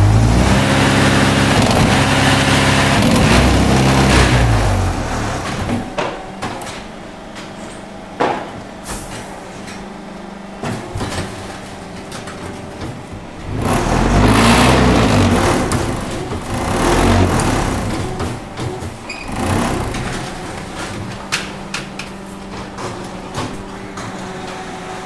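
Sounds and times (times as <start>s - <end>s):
machine humming: 0.0s - 8.2s, 11.8s - 25.0s
machine shaking and rumbling: 0.0s - 8.2s, 10.8s - 23.8s.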